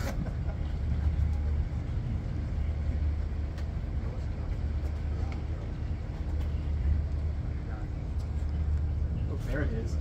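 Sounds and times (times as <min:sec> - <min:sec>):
faint voices: 0:00.0 - 0:10.0
low outdoor rumble: 0:00.0 - 0:10.0.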